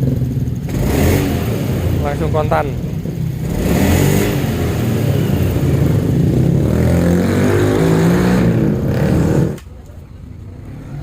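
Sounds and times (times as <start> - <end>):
scooter engine revving: 0.0 - 9.6.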